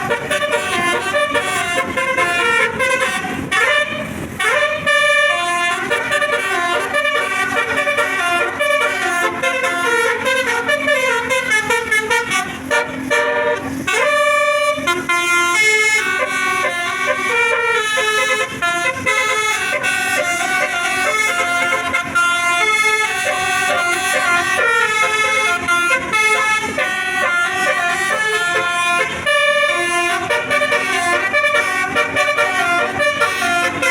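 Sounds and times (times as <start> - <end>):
musical bus air horn melody: 0.0 - 33.9.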